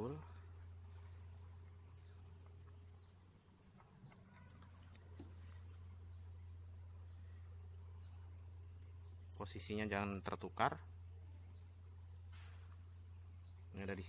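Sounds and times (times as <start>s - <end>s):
high-pitched cricket trill: 0.0s - 14.0s
low steady hum: 0.0s - 14.0s.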